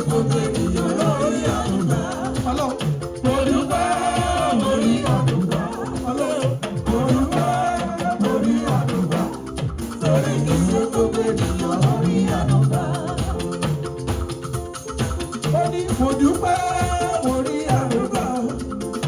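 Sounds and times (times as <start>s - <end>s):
drums: 0.0s - 19.0s
gospel choir singing: 0.0s - 19.0s
shaken percussion: 0.0s - 19.0s.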